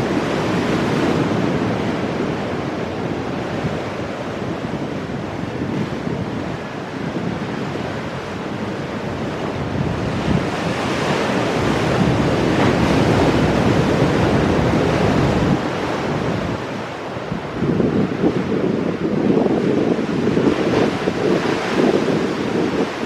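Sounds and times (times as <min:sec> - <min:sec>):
ocean waves breaking on rocks: 0:00.0 - 0:23.0
wind on microphone: 0:00.0 - 0:23.0.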